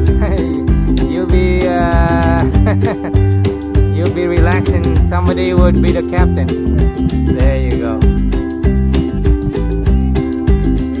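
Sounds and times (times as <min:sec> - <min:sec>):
bass line: 0:00.0 - 0:11.0
strummed guitar: 0:00.0 - 0:11.0.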